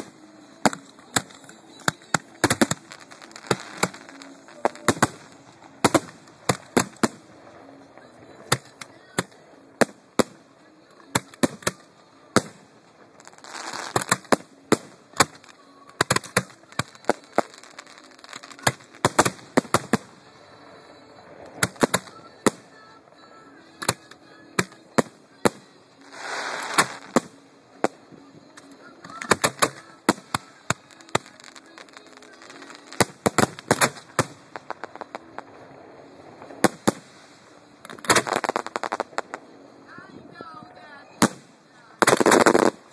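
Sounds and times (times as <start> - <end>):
fireworks cracks and bangs: 0.0 - 39.9, 40.6 - 42.9
rushing hiss of fireworks: 0.0 - 42.9.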